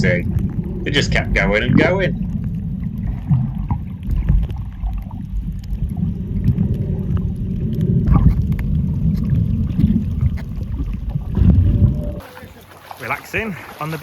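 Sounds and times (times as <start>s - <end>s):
muffled underwater rumble: 0.0s - 12.2s.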